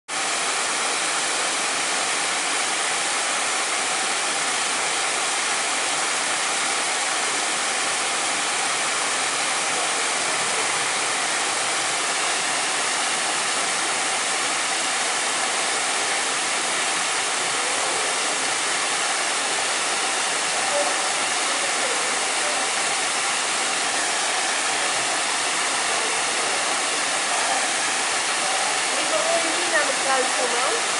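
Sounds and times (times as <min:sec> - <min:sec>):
waterfall splashing over rocks: 0:00.1 - 0:30.9.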